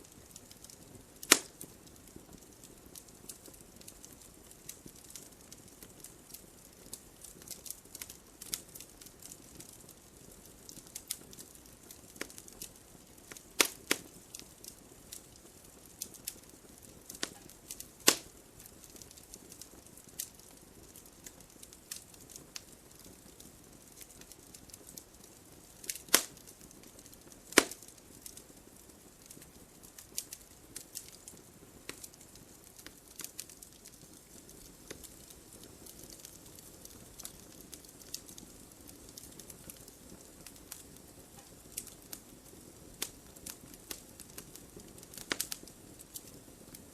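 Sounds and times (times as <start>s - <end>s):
faint steady hiss: 0.0s - 46.9s
sharp pops from fire: 0.0s - 46.9s
wood fire crackling: 0.0s - 46.9s.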